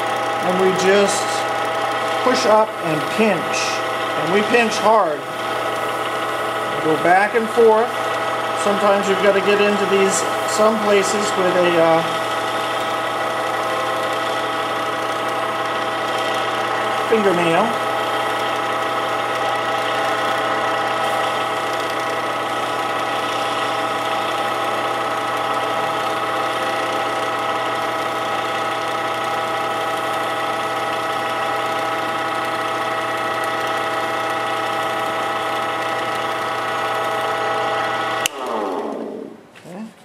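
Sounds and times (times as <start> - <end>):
wood lathe motor whine: 0.0 - 39.6
paper buffing spinning wood: 0.0 - 39.7.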